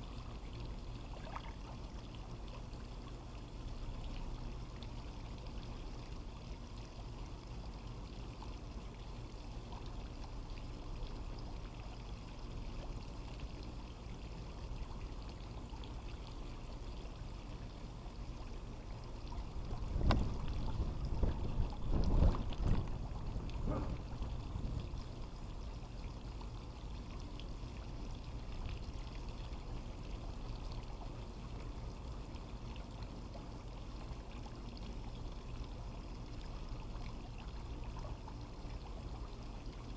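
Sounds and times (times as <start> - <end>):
water pouring: 0.1 - 39.9.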